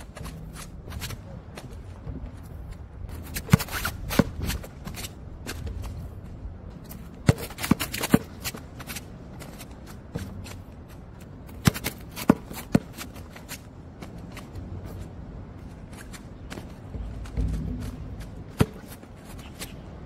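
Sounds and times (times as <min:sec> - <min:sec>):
shoe scuffs and ticks: 0:00.0 - 0:20.0.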